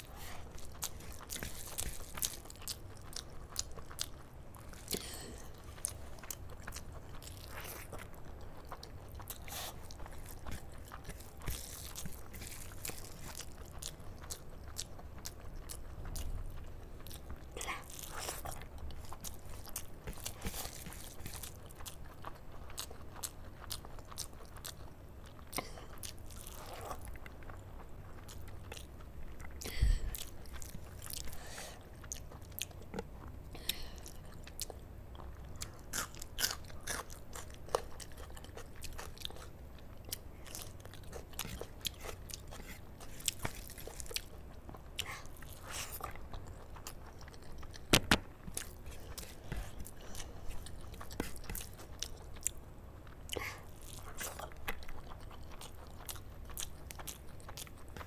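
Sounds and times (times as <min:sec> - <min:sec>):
wet chewing and smacking: 0:00.0 - 0:58.0.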